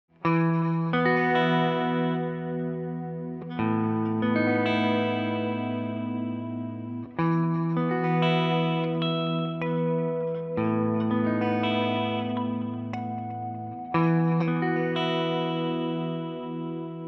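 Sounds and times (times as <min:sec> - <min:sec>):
electric guitar chords ringing: 0:00.2 - 0:17.0.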